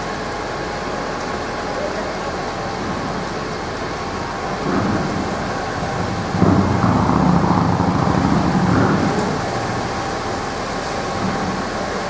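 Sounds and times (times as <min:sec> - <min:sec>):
fire engines rumbling: 0:00.0 - 0:12.0.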